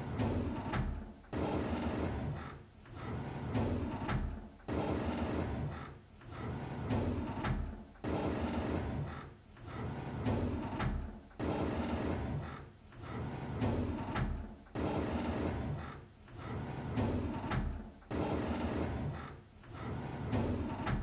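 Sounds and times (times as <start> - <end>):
drawer sliding on runners: 0.0 - 21.0.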